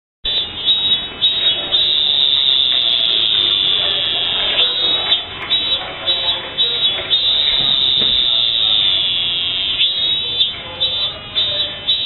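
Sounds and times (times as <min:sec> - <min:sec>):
cicada buzzing: 0:00.3 - 0:11.2.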